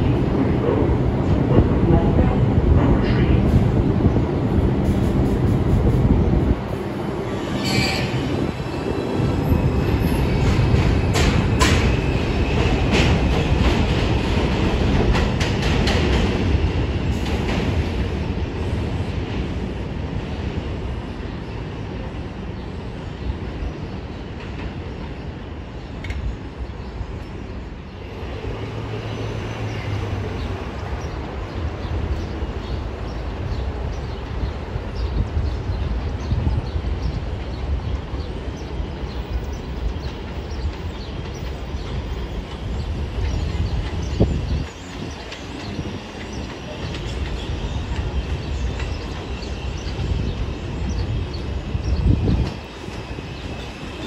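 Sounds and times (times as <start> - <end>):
subway train rumbling: 0.0 - 54.0.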